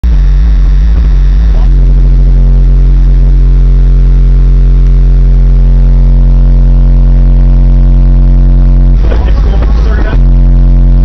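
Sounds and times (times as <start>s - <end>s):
subwoofers playing deep bass tone: 0.0s - 11.0s.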